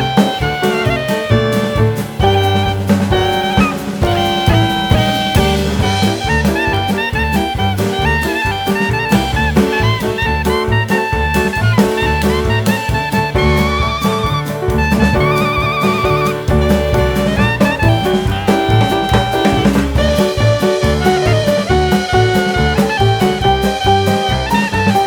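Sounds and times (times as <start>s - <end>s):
upbeat jazz music with saxophone: 0.0s - 25.0s.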